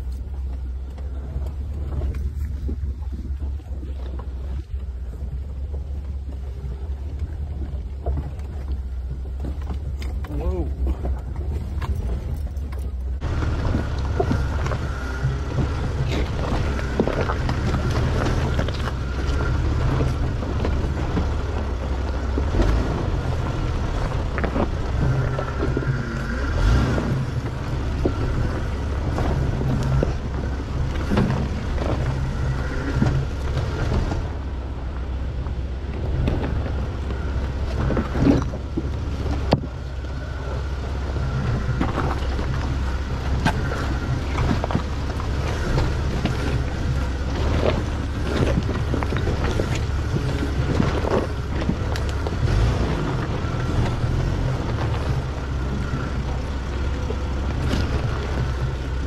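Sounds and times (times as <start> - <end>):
low engine rumble: 0.0 - 59.0
tyres crunching over rock: 8.0 - 34.5, 35.3 - 59.0.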